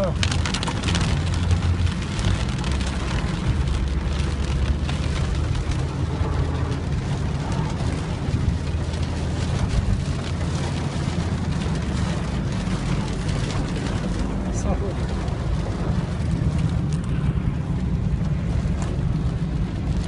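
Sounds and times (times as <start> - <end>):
continuous low rumble: 0.0 - 20.0
heavy rain patter: 0.0 - 20.0.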